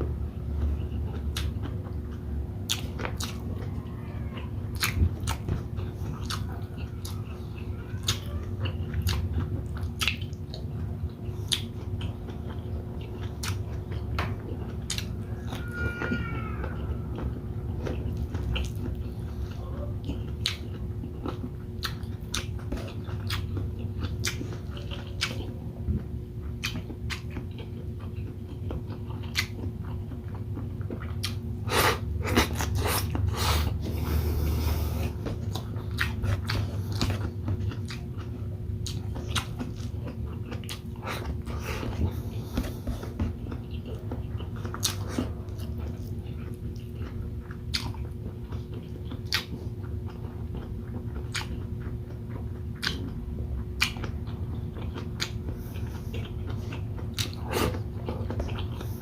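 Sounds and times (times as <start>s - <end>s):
steady low hum: 0.0s - 59.0s
close chewing and biting: 0.1s - 59.0s.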